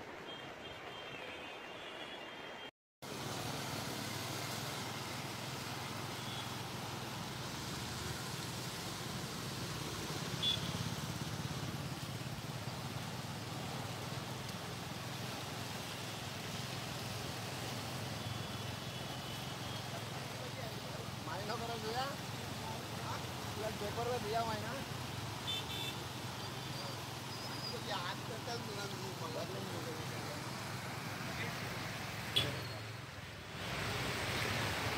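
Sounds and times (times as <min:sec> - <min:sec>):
river rushing: 0:03.1 - 0:34.9.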